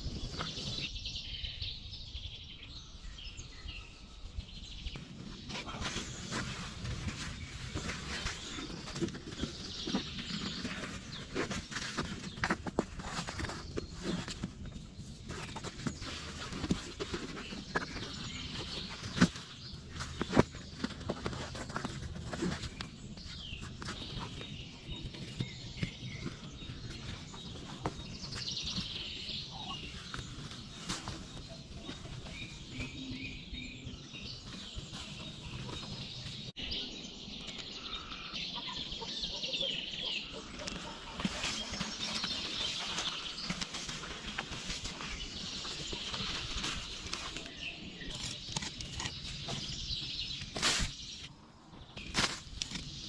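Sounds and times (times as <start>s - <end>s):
low outdoor background: 0.0s - 53.0s
small birds chirping: 0.0s - 53.0s.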